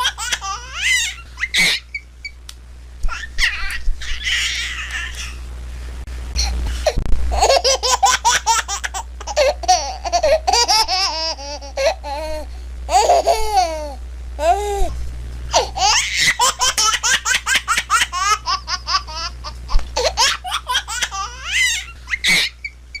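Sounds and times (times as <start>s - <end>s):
baby giggling: 0.0s - 2.0s, 3.1s - 5.4s, 7.4s - 14.9s, 15.5s - 23.0s.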